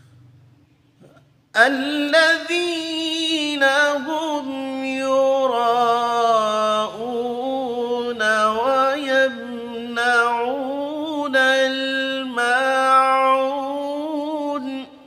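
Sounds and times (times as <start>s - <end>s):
man reciting melodically: 1.1s - 15.0s.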